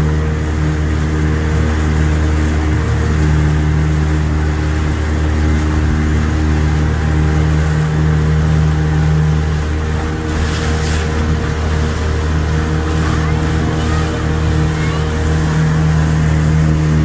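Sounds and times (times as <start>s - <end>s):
motorboat engine running: 0.0s - 17.0s
water noise: 0.0s - 17.0s.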